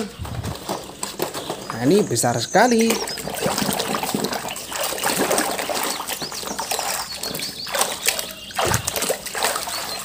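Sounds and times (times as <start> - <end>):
water splashing in a metal basin: 0.2 - 10.0.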